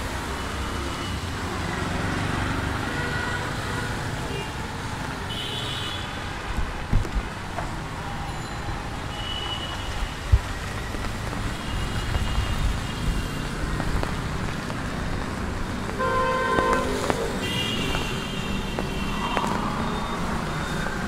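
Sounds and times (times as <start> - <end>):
rain falling on street: 0.0 - 21.0
vehicles passing on wet road: 0.0 - 21.0.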